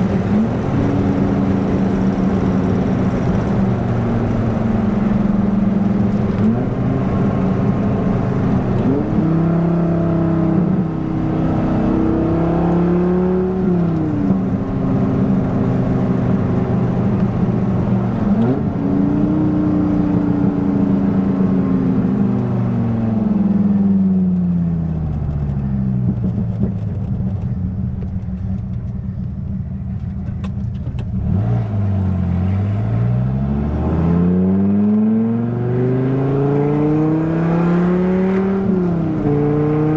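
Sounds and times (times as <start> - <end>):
sports car engine and exhaust: 0.0 - 39.9.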